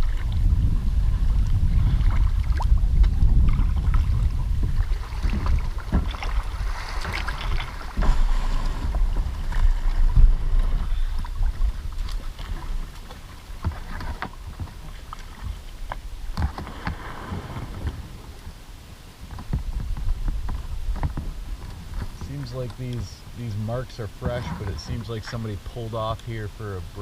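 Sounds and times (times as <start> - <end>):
water splashing: 0.0 - 27.0
wind buffeting microphone: 0.0 - 27.0.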